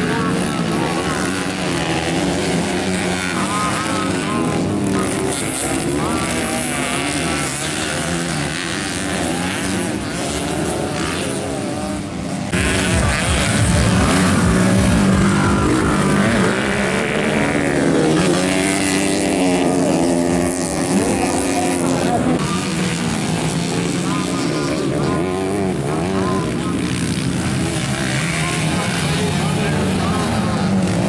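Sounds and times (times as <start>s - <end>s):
dirt bike engines racing: 0.0s - 31.0s.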